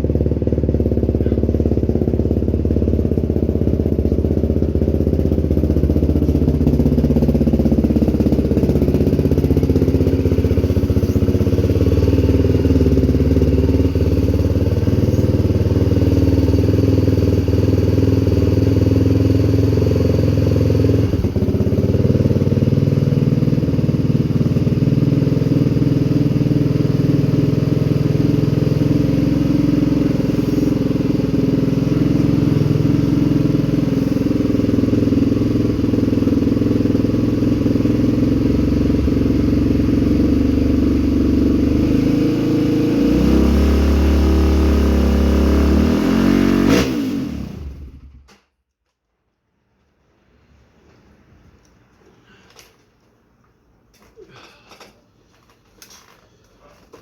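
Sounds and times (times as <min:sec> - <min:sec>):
vehicle engine running loud: 0:00.0 - 0:48.2.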